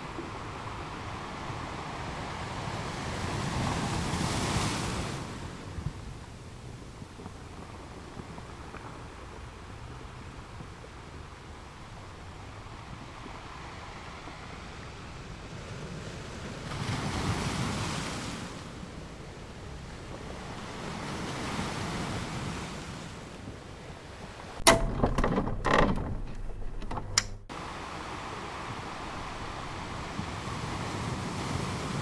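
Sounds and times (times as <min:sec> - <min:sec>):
harsh crackling wind buffets: 0:00.0 - 0:32.0.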